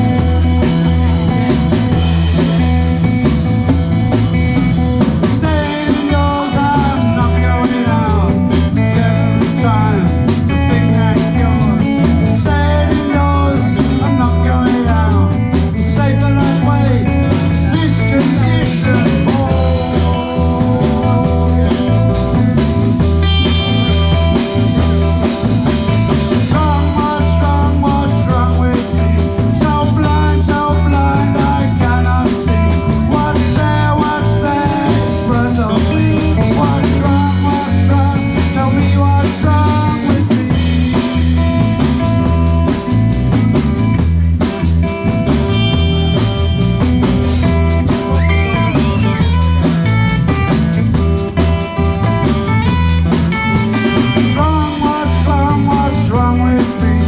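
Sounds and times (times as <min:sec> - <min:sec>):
bass: 0:00.0 - 0:57.0
drum kit with percussion: 0:00.0 - 0:57.0
electric guitar lead: 0:00.0 - 0:57.0.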